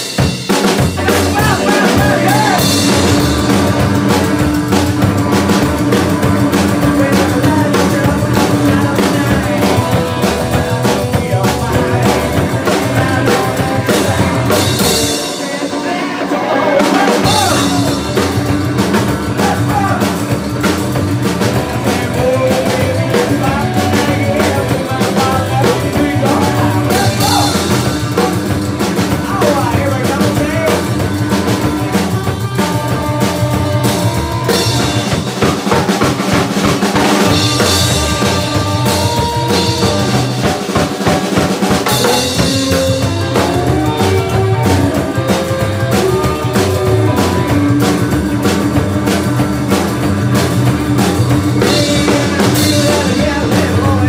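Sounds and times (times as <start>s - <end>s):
rockabilly band playing: 0.0s - 54.0s
upright bass: 0.0s - 54.0s.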